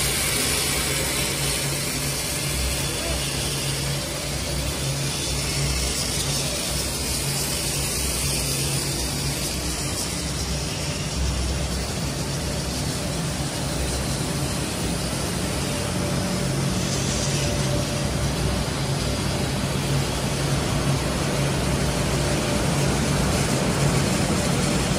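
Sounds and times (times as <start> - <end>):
machine hiss: 0.0 - 24.9.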